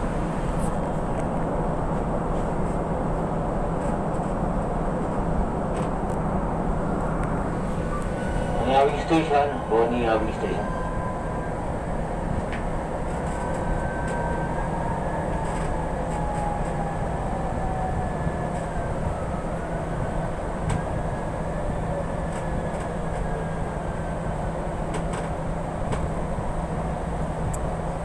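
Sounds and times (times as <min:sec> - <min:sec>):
train rumble and rail noise: 0:00.0 - 0:28.0.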